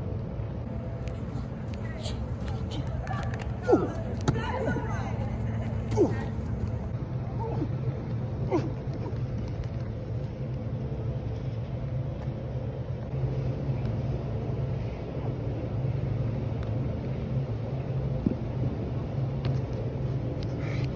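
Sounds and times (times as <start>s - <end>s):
ventilation fans humming: 0.0s - 20.9s.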